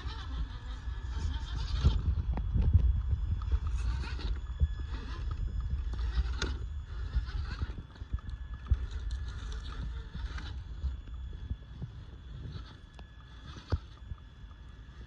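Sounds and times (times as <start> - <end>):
faint motor whine: 0.0 - 15.0
low rumble: 0.0 - 15.0
tyres clicking and scraping on rocks: 1.8 - 15.0.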